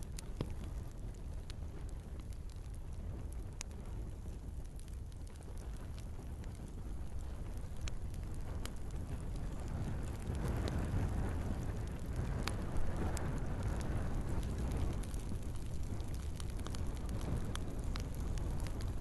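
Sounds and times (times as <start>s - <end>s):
flame rushing: 0.0s - 19.0s
wood fire crackling and popping: 0.0s - 19.0s.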